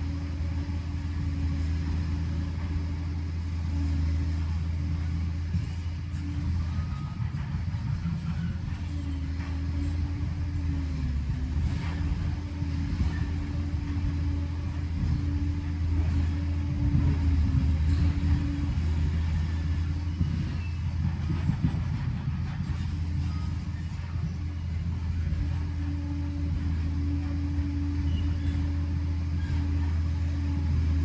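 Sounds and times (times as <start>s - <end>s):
diesel engine rumbling: 0.0s - 31.0s.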